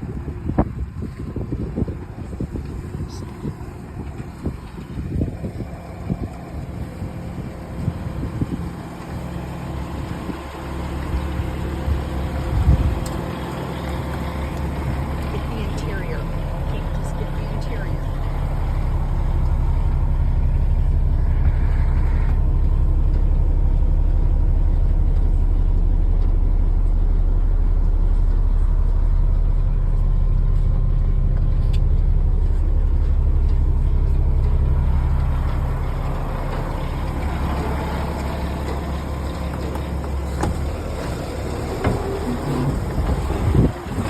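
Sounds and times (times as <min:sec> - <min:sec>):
truck diesel engine idling: 0:00.0 - 0:44.0.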